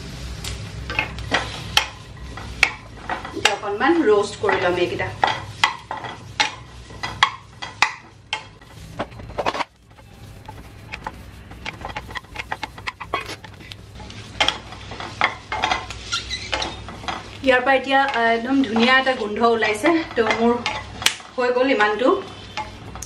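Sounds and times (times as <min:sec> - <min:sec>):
vegetables clicking and tapping in pan: 0:00.4 - 0:23.0
wooden spatula scraping wok: 0:00.7 - 0:23.0.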